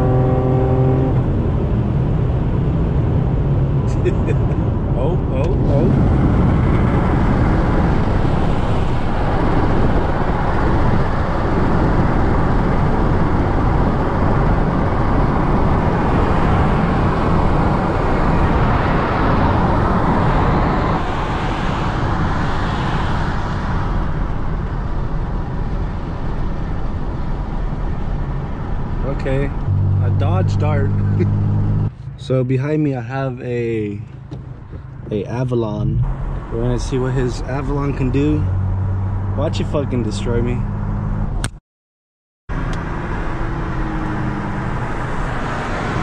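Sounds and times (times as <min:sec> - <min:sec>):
car interior road noise: 0:00.0 - 0:41.5, 0:42.5 - 0:46.0.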